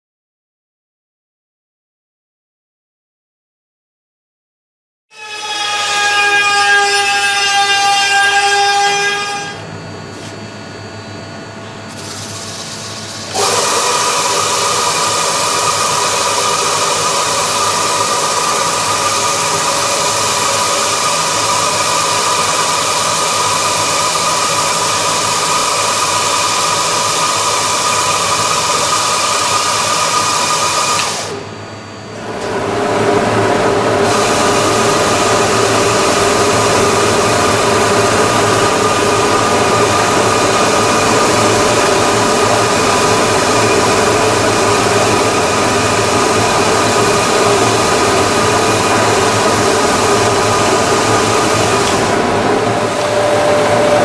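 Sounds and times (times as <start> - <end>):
sanding machine whine: 5.2 - 54.0.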